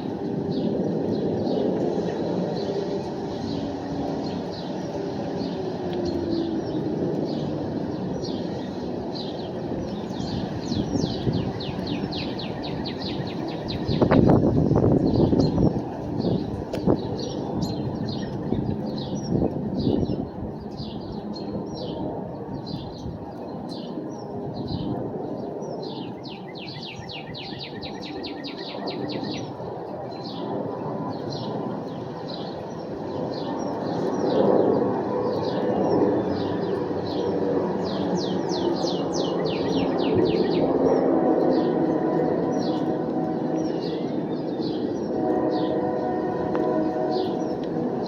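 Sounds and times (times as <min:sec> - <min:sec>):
small birds chirping: 0:00.1 - 0:47.7.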